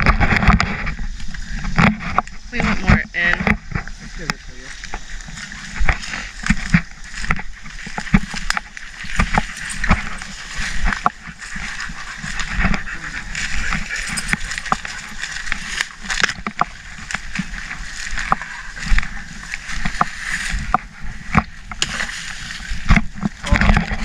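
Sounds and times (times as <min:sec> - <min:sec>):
footsteps through dry leaves: 0:03.6 - 0:24.0.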